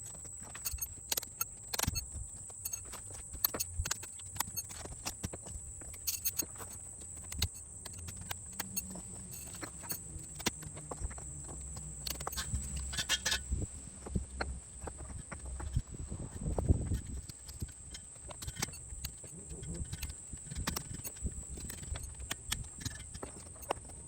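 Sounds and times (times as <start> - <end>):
concrete pavers clacking: 0.0 - 24.0.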